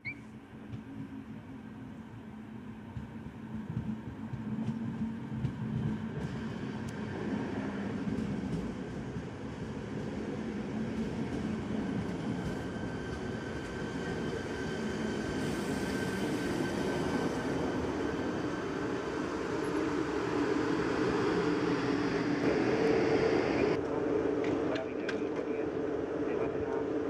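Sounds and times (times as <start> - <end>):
train wheels rumbling on rails: 2.7 - 25.6.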